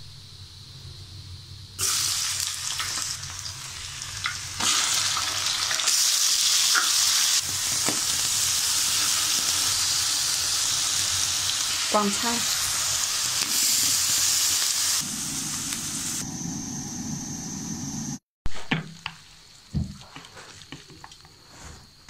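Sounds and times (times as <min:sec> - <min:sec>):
oil sizzling in a wok: 0:00.0 - 0:18.2, 0:18.9 - 0:22.0.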